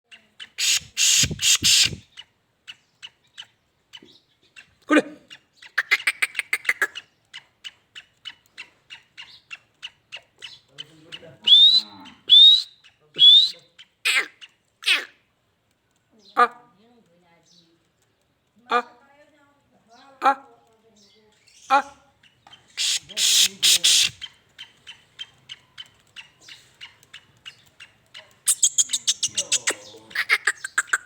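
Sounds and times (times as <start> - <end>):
bird calling with clicking notes: 0.1 - 16.1, 20.7 - 31.0.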